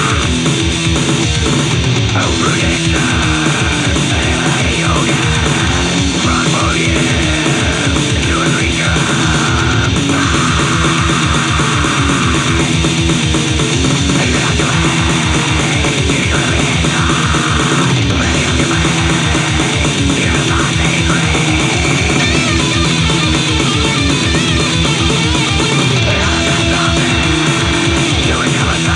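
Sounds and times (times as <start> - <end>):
distorted guitars: 0.0 - 28.9
fast pounding drums: 0.0 - 28.9.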